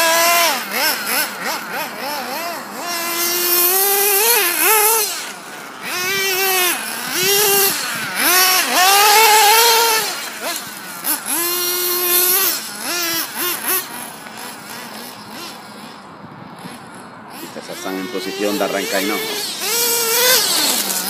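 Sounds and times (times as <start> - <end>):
rc car nitro engine revving: 0.0 - 21.0.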